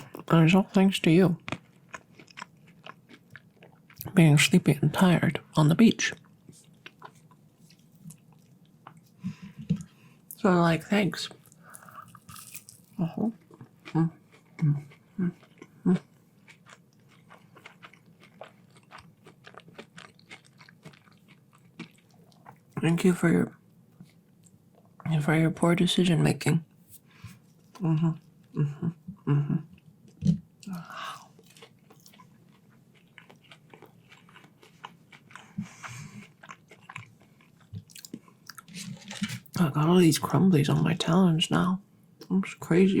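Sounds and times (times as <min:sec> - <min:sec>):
chewing crispy food: 0:00.0 - 0:10.0, 0:11.3 - 0:23.0, 0:27.0 - 0:39.8.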